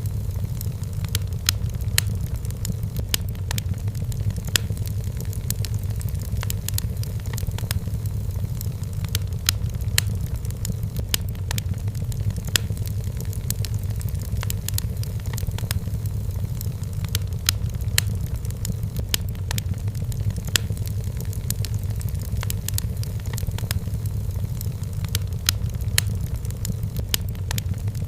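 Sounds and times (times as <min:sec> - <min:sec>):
burning wood crackling: 0:00.0 - 0:28.0
fire rumbling in fireplace: 0:00.0 - 0:28.0.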